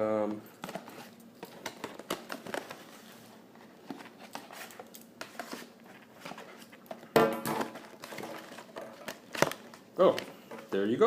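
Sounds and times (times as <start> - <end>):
packaging rustling: 0.6 - 10.8.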